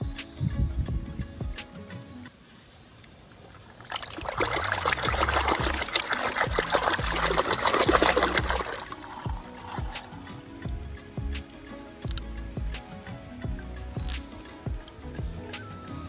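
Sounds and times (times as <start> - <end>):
running water splashing: 1.6 - 16.0.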